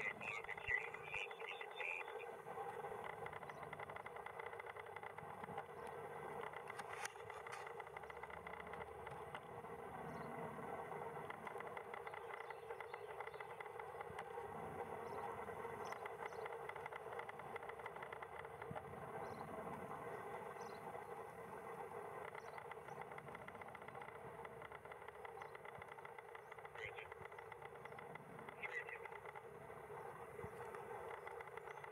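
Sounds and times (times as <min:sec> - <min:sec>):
distant helicopter rotor chop: 0:00.0 - 0:31.9.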